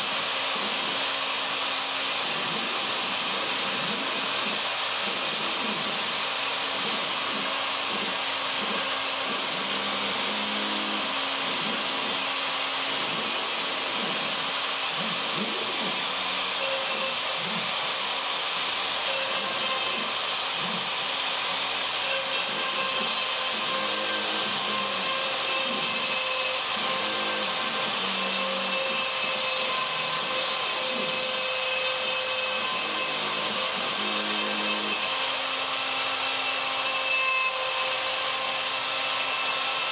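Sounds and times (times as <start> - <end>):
router cutting wood: 0.0 - 39.9.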